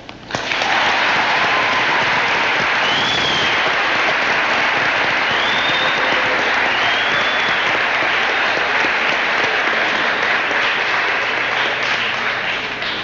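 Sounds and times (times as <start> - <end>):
audience applauding: 0.3 - 13.0.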